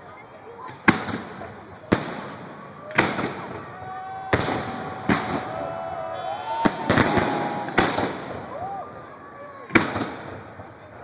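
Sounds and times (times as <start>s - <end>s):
firework bangs: 0.7s - 11.0s
firework crackling: 0.7s - 11.0s.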